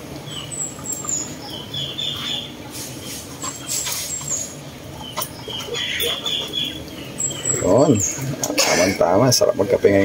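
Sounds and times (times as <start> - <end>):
small birds chirping: 0.0 - 8.5.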